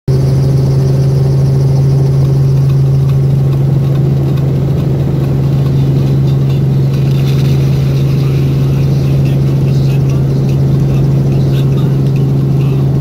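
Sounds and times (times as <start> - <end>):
helicopter engine and rotor: 0.1 - 13.0.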